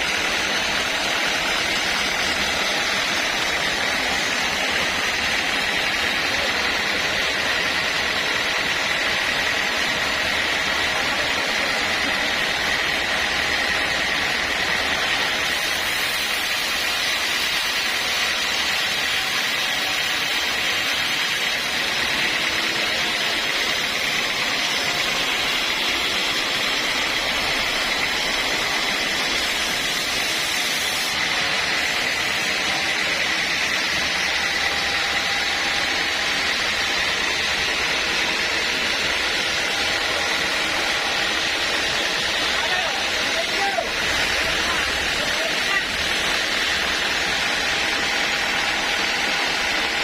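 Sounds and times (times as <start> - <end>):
sawmill machinery whine: 0.0 - 50.0.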